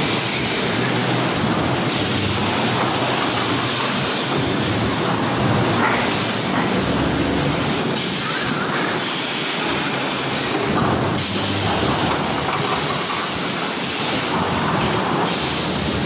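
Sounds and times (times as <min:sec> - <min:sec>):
welding machine running: 0:00.0 - 0:16.0.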